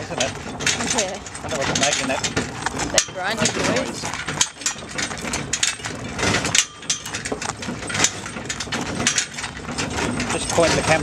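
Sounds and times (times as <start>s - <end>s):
metal shafts and harness rattling: 0.0s - 11.0s.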